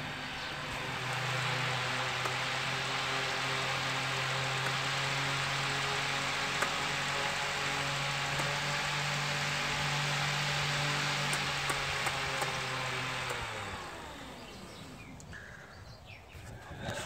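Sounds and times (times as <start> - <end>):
propeller whooshing hiss: 0.0 - 15.1
electric motor hum: 0.0 - 15.6.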